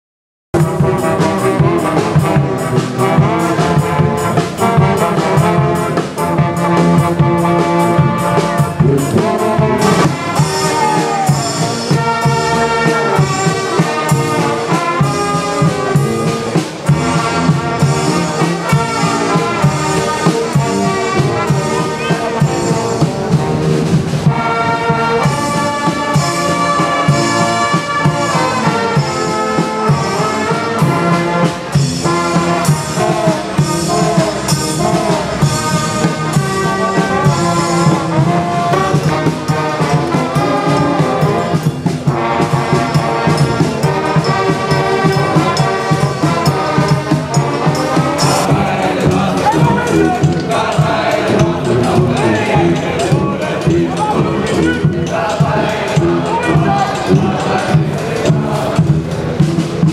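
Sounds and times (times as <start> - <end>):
brass band playing: 0.6 - 59.9.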